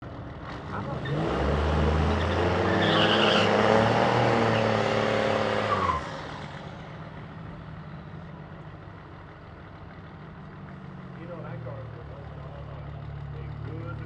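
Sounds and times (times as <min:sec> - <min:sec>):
truck engine at full throttle: 0:00.0 - 0:14.0.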